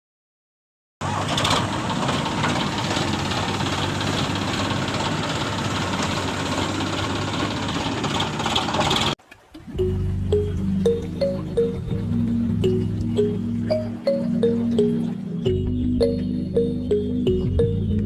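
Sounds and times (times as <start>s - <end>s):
tractor engine running: 1.0s - 18.0s.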